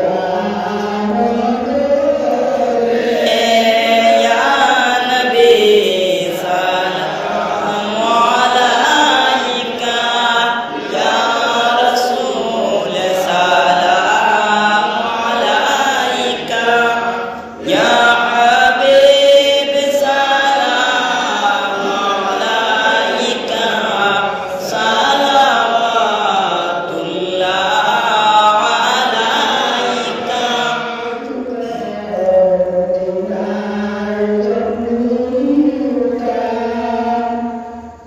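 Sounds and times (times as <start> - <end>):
man chanting devotional verses: 0.0 - 37.8.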